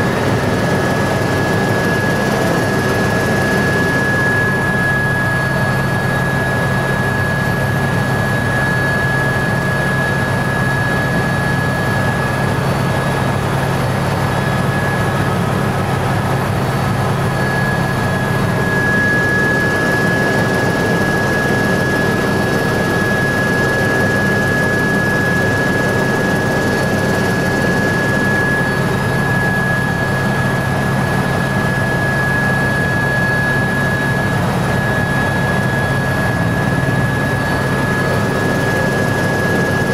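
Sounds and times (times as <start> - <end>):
helicopter drone: 0.0 - 39.9
turbine high whine: 0.0 - 39.9.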